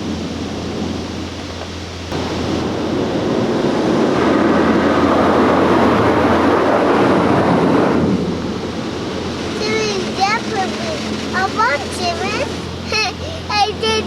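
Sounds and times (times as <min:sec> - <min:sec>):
car wash machinery rumbling: 0:00.0 - 0:14.0.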